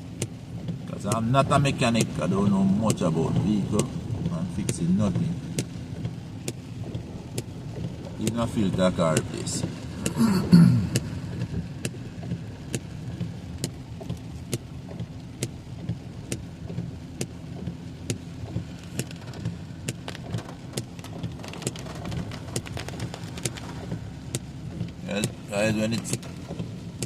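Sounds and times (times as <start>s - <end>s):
engine and road rumble: 0.0s - 27.0s
rain hiss: 0.0s - 27.0s.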